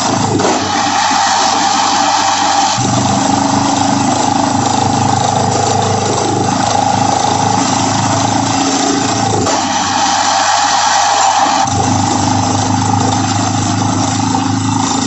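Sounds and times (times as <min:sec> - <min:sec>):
drilling rig engine drone: 0:00.0 - 0:15.0.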